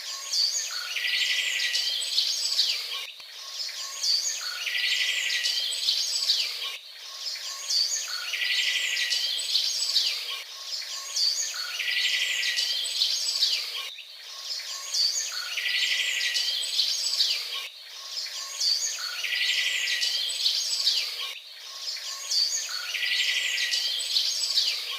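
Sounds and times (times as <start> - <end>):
songbird singing buzzy trill: 0.0 - 24.9.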